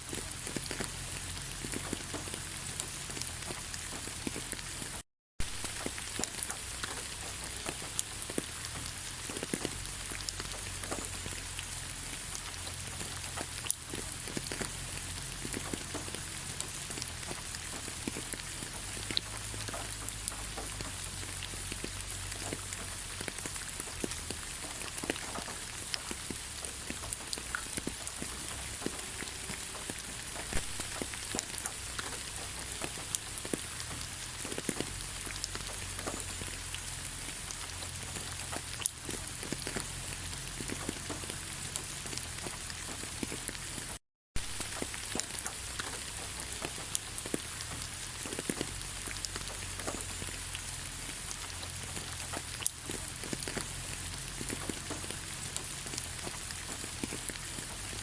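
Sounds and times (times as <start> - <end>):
light rain falling: 0.0 - 58.0
raindrops ticking: 0.0 - 58.0.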